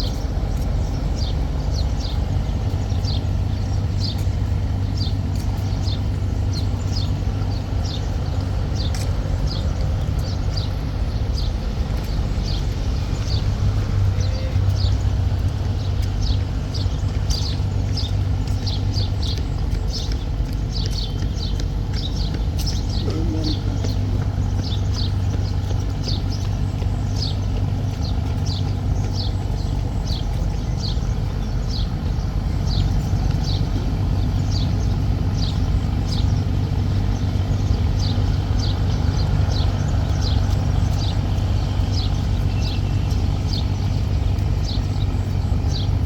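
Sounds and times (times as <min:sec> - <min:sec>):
bird chirping: 0:00.0 - 0:46.0
boat engine droning: 0:00.0 - 0:46.0.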